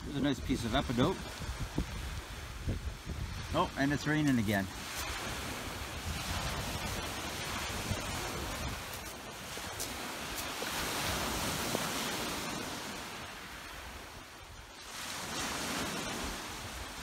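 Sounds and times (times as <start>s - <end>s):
waves washing onto pebbles: 0.0s - 17.0s
wind rumbling on microphone: 0.0s - 17.0s.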